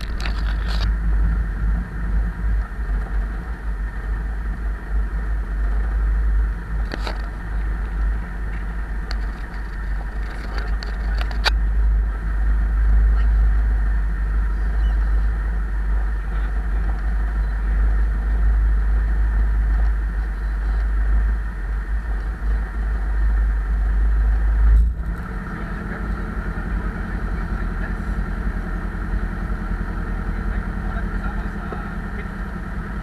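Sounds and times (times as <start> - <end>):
light airplane engine and propeller: 0.0 - 33.0.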